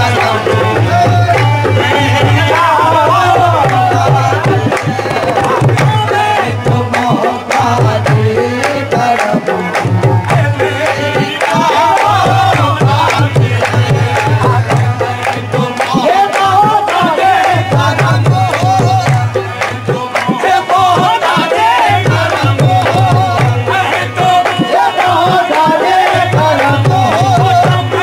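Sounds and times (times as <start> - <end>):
tabla drumming: 0.0 - 28.0.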